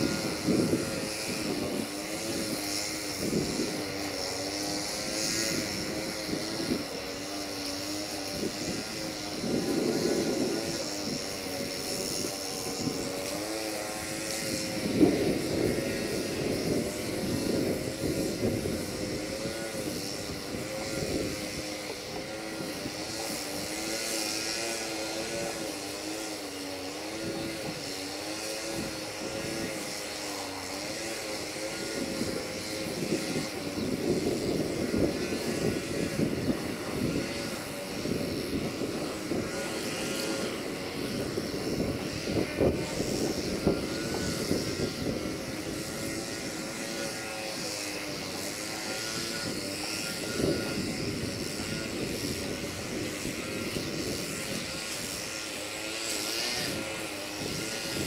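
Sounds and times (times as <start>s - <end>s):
train engine drone: 0.0s - 58.0s.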